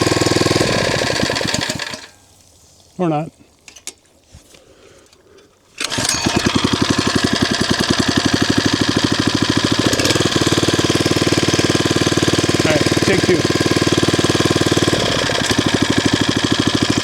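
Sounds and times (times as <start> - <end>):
gas-engine water pump running: 0.0 - 3.6, 5.5 - 17.0.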